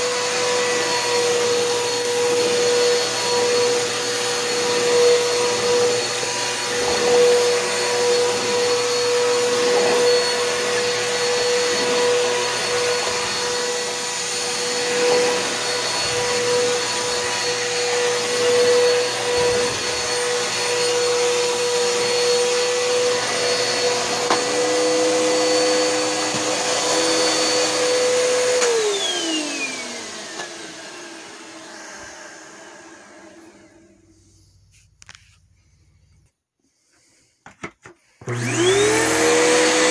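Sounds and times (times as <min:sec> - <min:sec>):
vacuum cleaner running: 0:00.0 - 0:35.2, 0:37.6 - 0:39.9.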